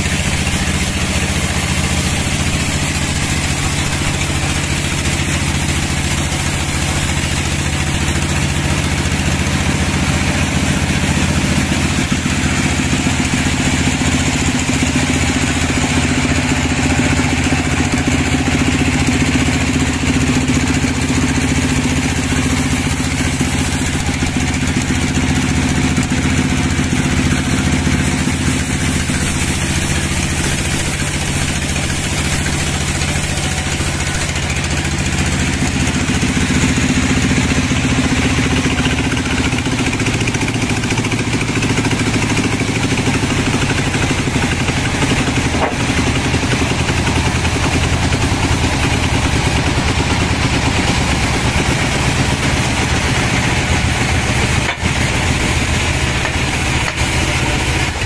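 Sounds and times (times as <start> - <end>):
band saw running: 0.0 - 58.0.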